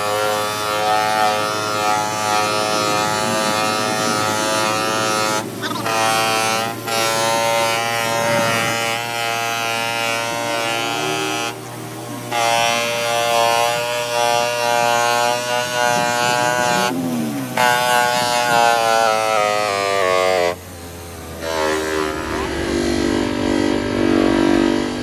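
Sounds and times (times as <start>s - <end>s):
bench polishing machine whining: 0.0s - 25.0s.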